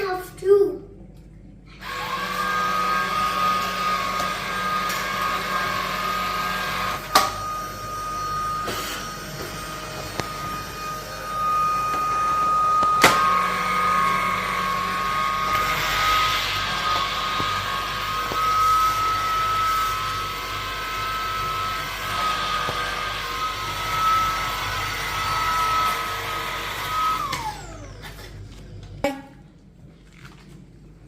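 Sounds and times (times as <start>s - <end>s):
handheld vacuum cleaner whine: 1.8s - 28.9s.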